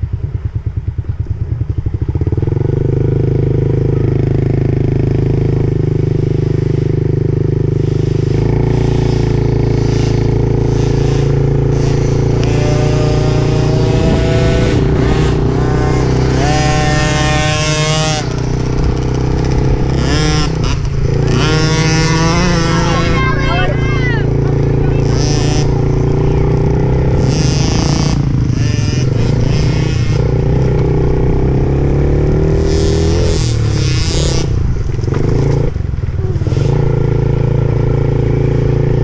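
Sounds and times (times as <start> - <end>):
dirt bike engine revving: 1.5 - 39.0.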